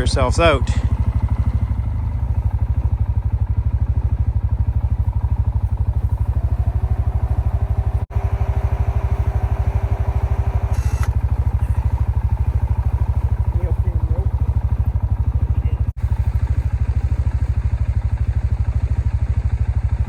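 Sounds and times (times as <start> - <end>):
winch whining: 0.0 - 3.1, 3.8 - 18.8
atv engine idling: 0.0 - 20.0.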